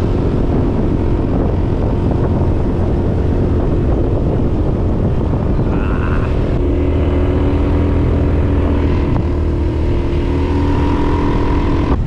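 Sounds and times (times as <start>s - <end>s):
motorbike engine running: 0.0s - 12.0s
wind rumble on microphone: 0.0s - 12.0s.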